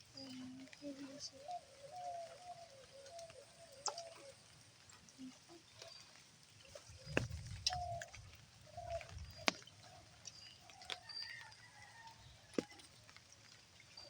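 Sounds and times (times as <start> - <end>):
birds cooing: 0.0 - 6.0, 6.8 - 12.1.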